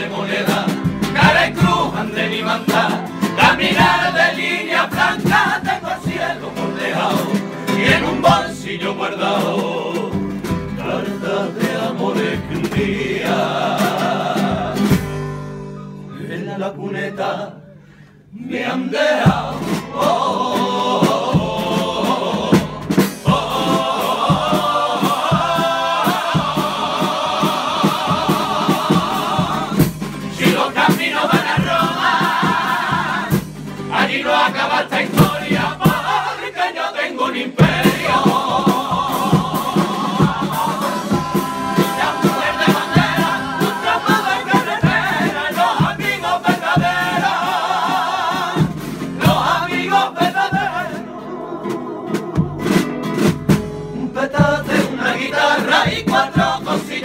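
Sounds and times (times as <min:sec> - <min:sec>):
men singing in chorus: 0:00.0 - 0:15.0, 0:18.3 - 0:52.8, 0:54.0 - 0:57.0
acoustic guitar: 0:00.0 - 0:18.6, 0:19.2 - 0:57.0.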